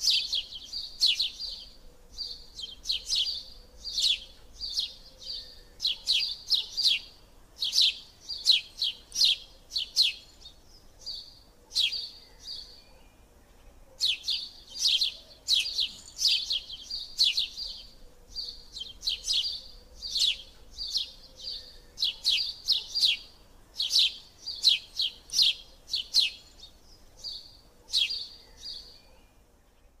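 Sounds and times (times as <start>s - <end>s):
small bird chirping: 0.0s - 30.0s.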